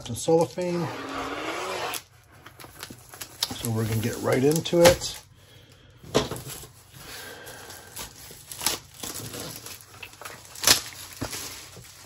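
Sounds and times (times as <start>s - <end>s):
cellophane wrap tearing and crinkling: 0.3s - 5.2s, 6.4s - 12.0s.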